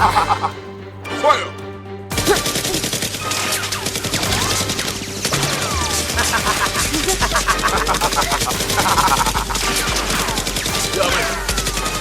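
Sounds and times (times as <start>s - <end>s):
rapid toy gunfire: 2.3s - 12.0s.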